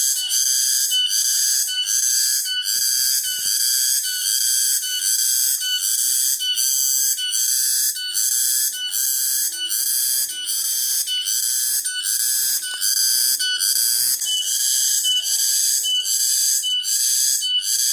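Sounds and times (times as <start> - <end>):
cicada buzzing song: 0.0 - 17.9.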